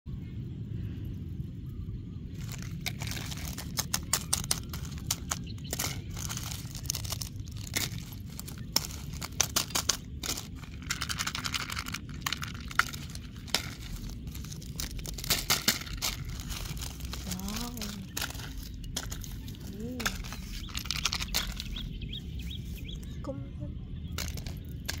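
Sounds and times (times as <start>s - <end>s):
plastic candy wrappers crinkling: 2.3s - 23.0s, 24.2s - 25.0s
sweets dropping into plastic basket: 2.4s - 21.8s, 24.2s - 25.0s.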